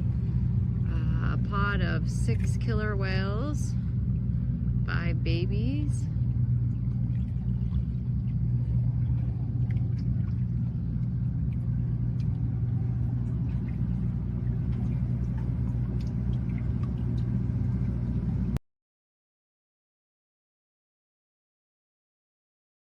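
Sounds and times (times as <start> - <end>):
boat machinery droning: 0.0 - 18.6.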